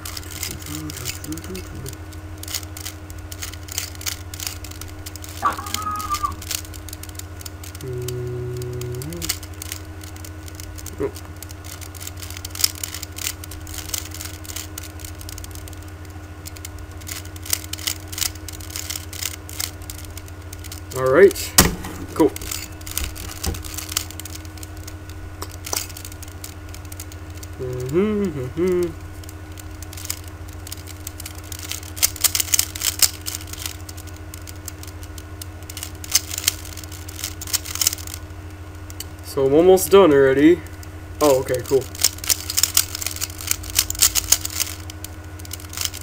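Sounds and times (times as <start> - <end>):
plastic puzzle cube clicking: 0.0 - 28.0, 28.6 - 38.2, 41.2 - 46.0
low electrical hum: 0.0 - 46.0.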